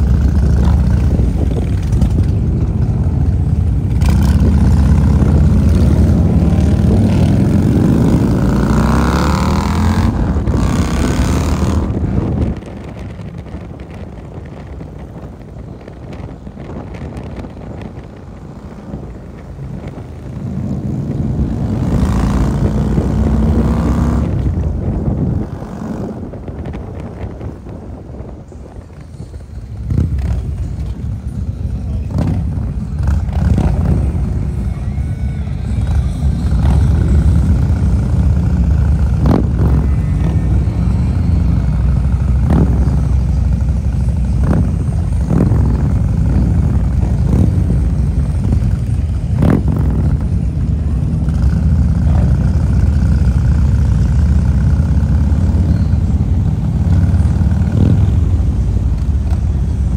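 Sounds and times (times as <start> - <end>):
motorcycles rumbling: 0.0 - 59.9.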